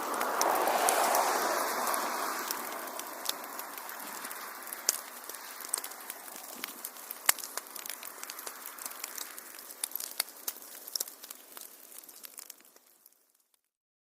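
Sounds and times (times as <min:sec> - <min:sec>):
wood fire crackling: 0:00.0 - 0:13.7.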